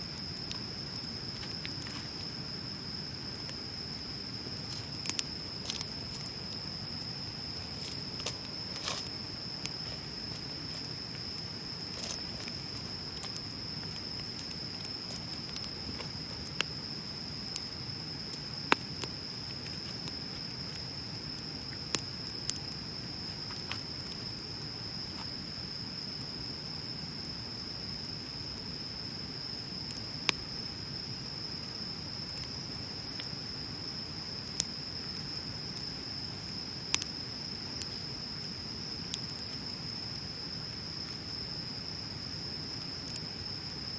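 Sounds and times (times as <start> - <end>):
fire crackles and pops: 0.0 - 43.9.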